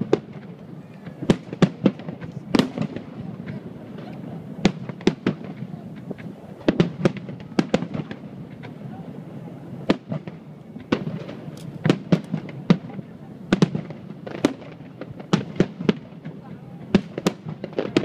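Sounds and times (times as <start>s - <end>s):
firework bangs: 0.0s - 18.0s.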